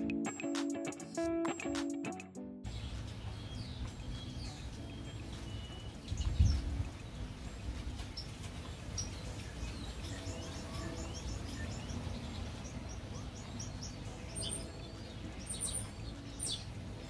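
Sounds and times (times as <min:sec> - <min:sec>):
small birds chirping: 0:02.7 - 0:17.0.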